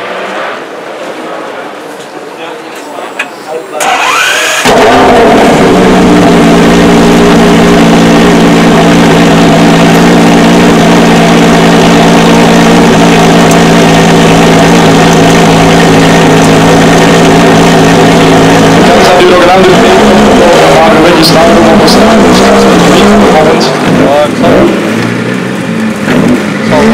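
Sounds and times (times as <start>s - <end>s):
car engine idling loudly: 3.8s - 26.9s.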